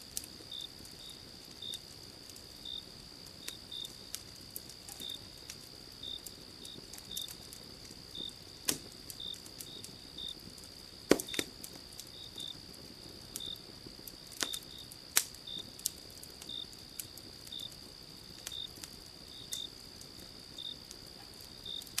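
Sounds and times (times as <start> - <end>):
insect chirping: 0.0 - 22.0
insects droning: 0.0 - 22.0
wood fire crackling: 0.0 - 22.0.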